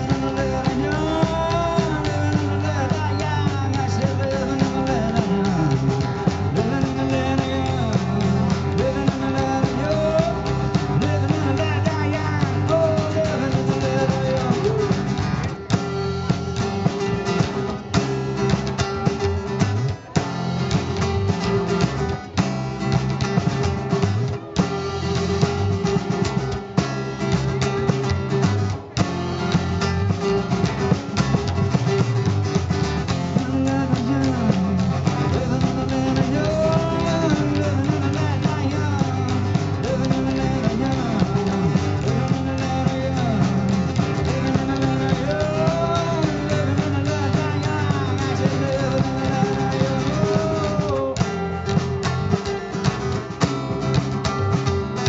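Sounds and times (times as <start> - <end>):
acoustic guitar: 0.0 - 55.0
drum kit: 0.0 - 55.0
electric guitar: 0.0 - 55.0.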